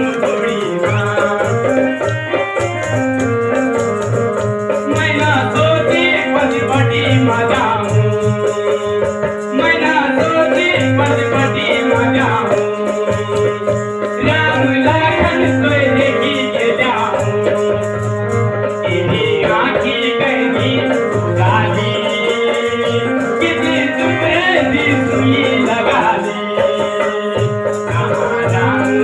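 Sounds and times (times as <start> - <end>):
song with percussion beat: 0.0 - 29.0.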